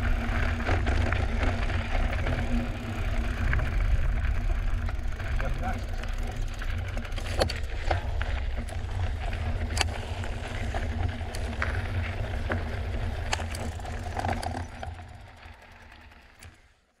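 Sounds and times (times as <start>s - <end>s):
bike tyres rumbling on dirt: 0.0s - 16.7s
bike clicks and rattles: 0.0s - 17.0s.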